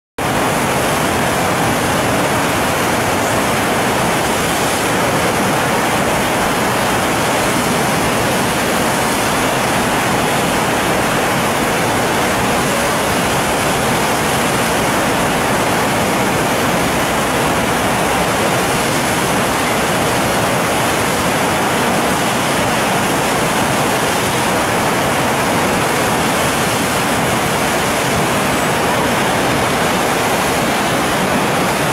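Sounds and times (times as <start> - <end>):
whitewater rushing: 0.2 - 31.9.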